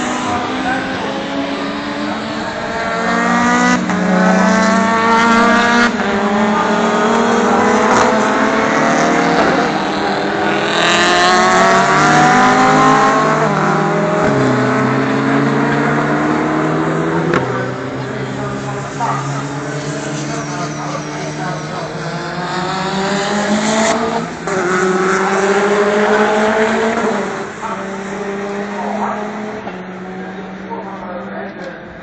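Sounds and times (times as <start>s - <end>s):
race car engines accelerating: 0.0s - 32.0s.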